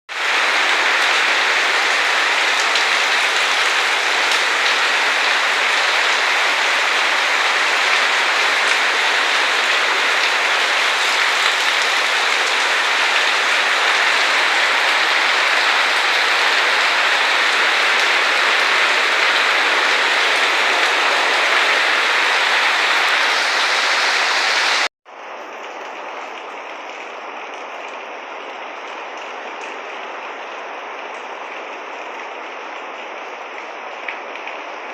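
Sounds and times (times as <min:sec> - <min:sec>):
heavy rain downpour: 0:00.1 - 0:34.9.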